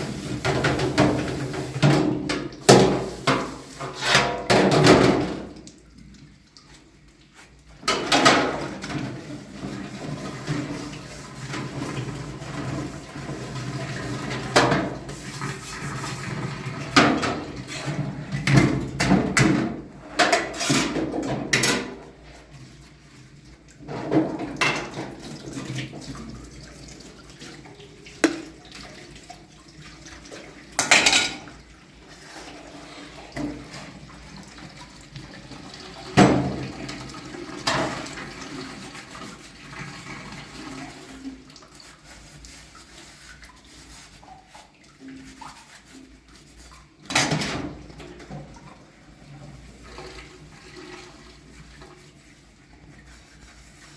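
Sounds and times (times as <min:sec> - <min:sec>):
running water: 0:00.0 - 0:53.9.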